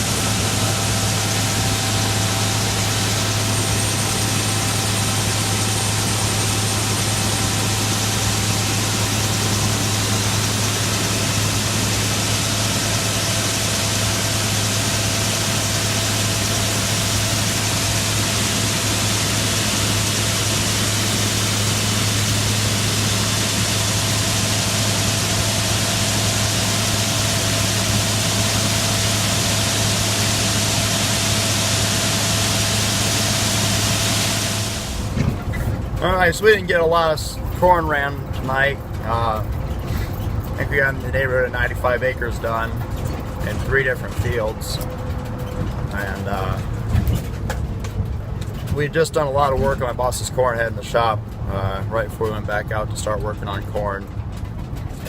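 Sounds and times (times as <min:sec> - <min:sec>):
heavy vehicle engine droning: 0:00.0 - 0:55.0.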